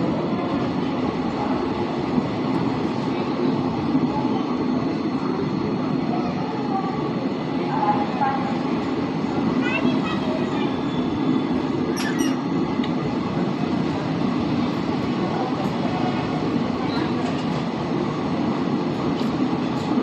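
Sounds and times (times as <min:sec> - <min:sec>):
train rumbling from on board: 0:00.0 - 0:20.0.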